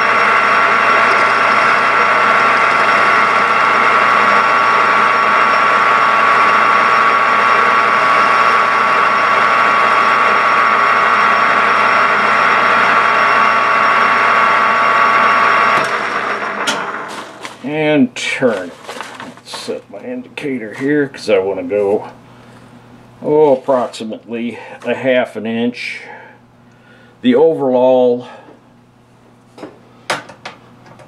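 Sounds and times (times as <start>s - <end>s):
lathe gear whine: 0.0s - 26.6s
lathe spindle hum: 0.0s - 27.2s.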